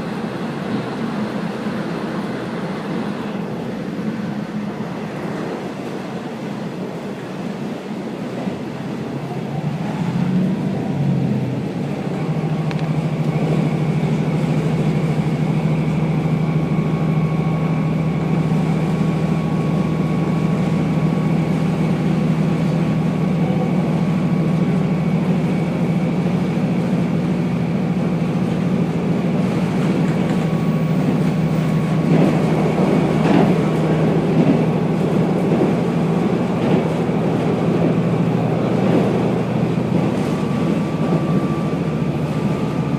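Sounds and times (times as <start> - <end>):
diesel railcar engine hum: 0.0 - 42.9
wheel and track rumble: 0.0 - 42.9.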